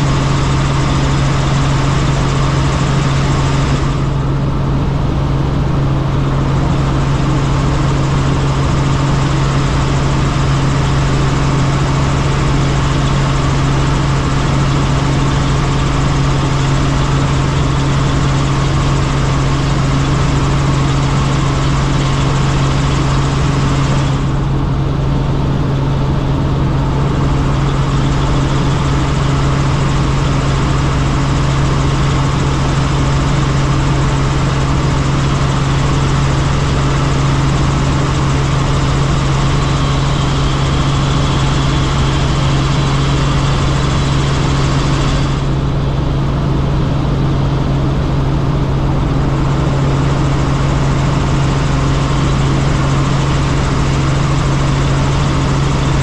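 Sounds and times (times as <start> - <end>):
helicopter rotor and turbine drone: 0.0 - 56.0.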